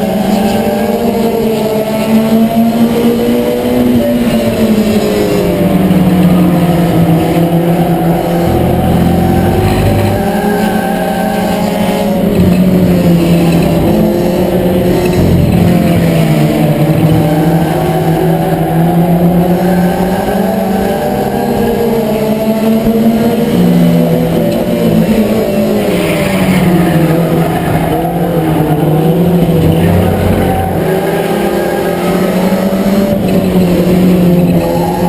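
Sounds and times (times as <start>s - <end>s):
race car engine: 0.0s - 35.0s.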